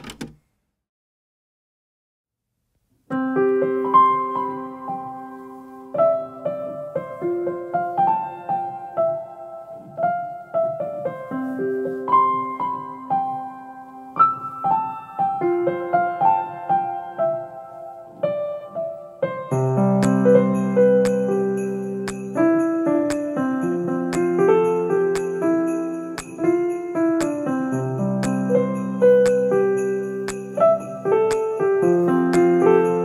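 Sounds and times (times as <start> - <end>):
gentle piano melody: 3.1 - 33.0.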